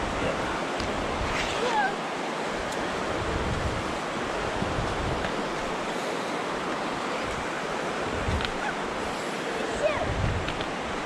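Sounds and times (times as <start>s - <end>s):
wind buffeting microphone: 0.0s - 5.9s, 6.6s - 11.0s
river flowing: 0.0s - 11.0s.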